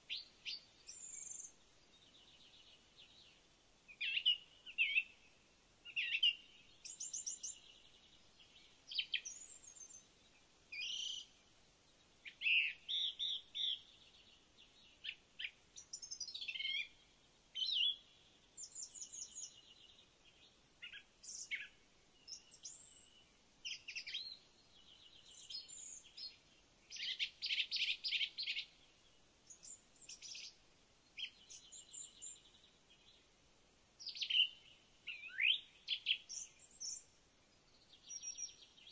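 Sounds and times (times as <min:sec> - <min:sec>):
birds chirping and trilling: 0:00.1 - 0:11.4, 0:12.2 - 0:17.0, 0:17.6 - 0:33.3, 0:34.0 - 0:38.9.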